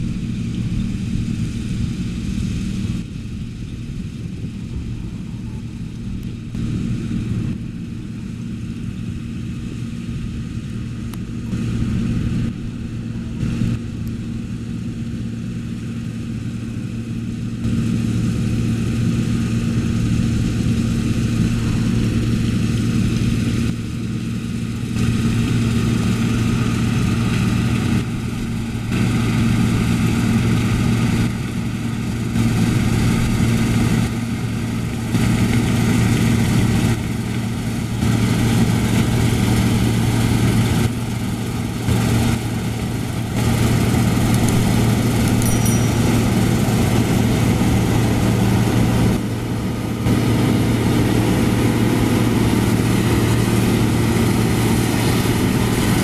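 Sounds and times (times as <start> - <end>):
combine diesel engine running: 0.0 - 56.0.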